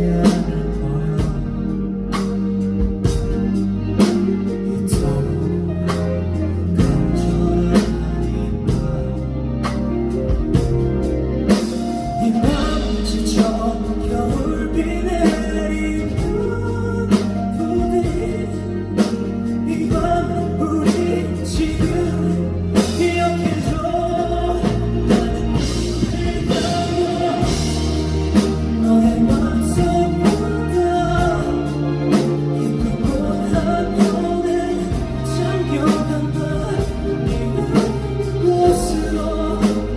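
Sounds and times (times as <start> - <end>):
person singing: 0.0 - 10.8, 11.5 - 39.9
guitar: 0.0 - 39.9.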